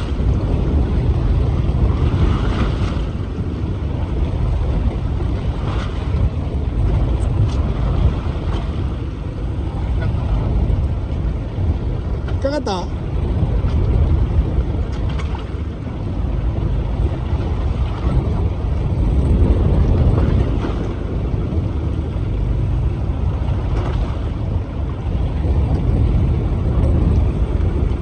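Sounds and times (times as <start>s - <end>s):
boat engine low rumble: 0.0s - 28.0s
sea noise: 0.0s - 28.0s
wind: 0.0s - 28.0s.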